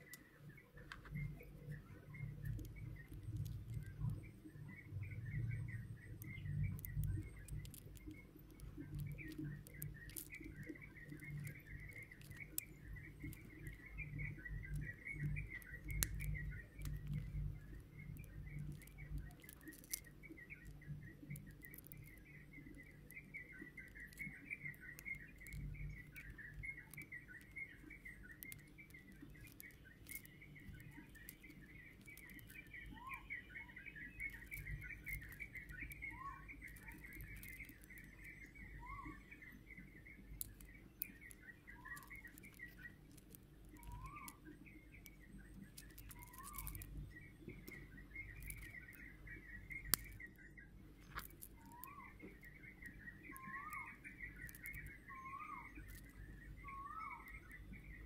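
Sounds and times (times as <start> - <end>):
light clicks: 0.0 - 58.0
low steady hum: 0.0 - 58.0
small birds chirping: 0.0 - 58.0.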